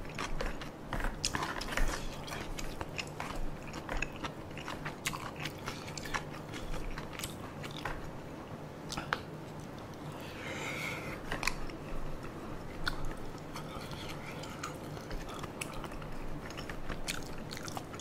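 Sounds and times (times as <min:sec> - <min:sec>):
chewing: 0:00.0 - 0:08.1, 0:08.8 - 0:18.0.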